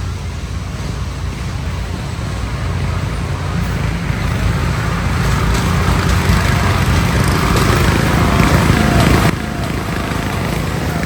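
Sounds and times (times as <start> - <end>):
lawn mower engine running rough: 0.0 - 11.0.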